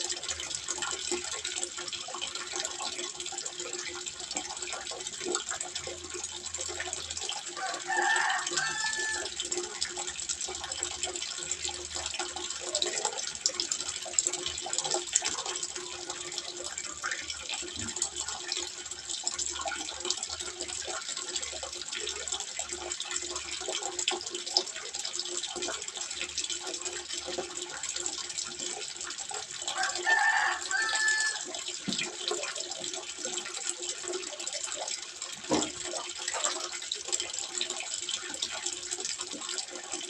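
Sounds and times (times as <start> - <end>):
water trickling into pond: 0.0 - 40.0.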